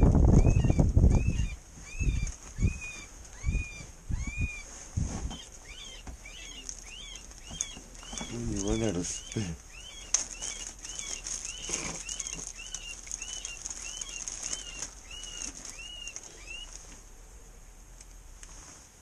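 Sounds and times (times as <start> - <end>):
high-pitched chirping calls: 0.0 - 16.8.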